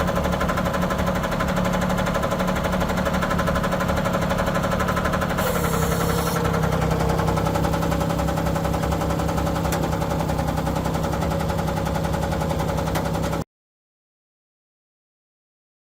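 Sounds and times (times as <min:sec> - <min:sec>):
diesel tractor engine idling: 0:00.0 - 0:13.4.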